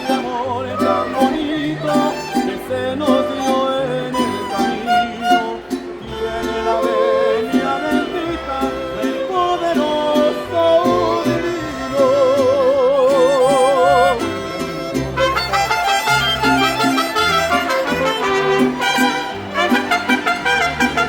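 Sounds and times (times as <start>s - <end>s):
mariachi band playing: 0.0s - 21.0s.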